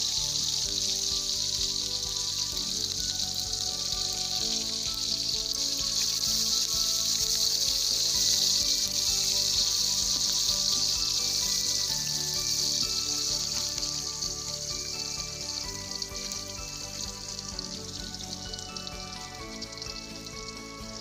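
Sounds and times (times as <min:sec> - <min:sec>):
background music of held notes: 0:00.0 - 0:21.0
oil sizzling: 0:00.0 - 0:21.0.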